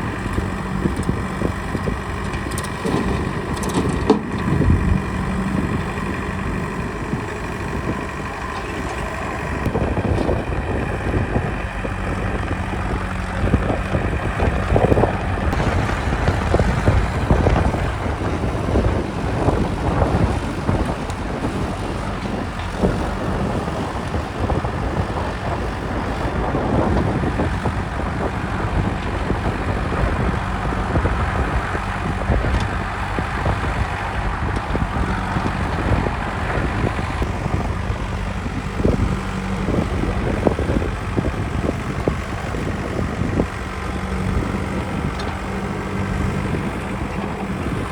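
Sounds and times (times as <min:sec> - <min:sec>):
heavy diesel machinery rumbling: 0:00.0 - 0:47.9.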